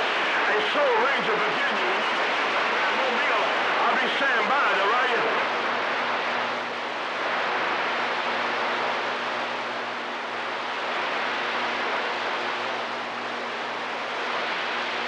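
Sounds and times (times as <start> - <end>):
faint low hum: 0.0 - 15.0
radio static hiss: 0.0 - 15.0.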